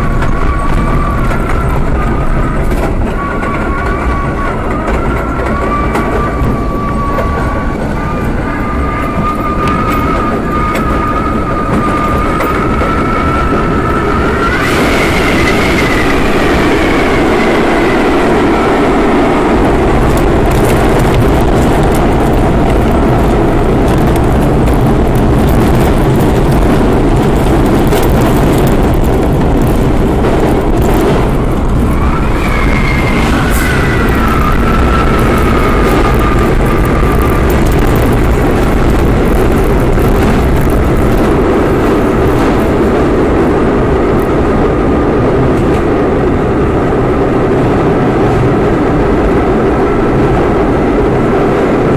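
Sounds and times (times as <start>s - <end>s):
subway train rumbling on rails: 0.0s - 51.9s
traction motor whine: 0.0s - 51.9s.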